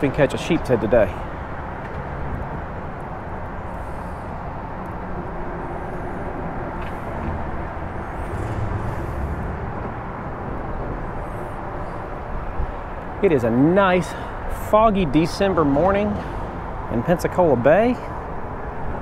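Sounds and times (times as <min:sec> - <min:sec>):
highway traffic rumble: 0:00.0 - 0:19.0.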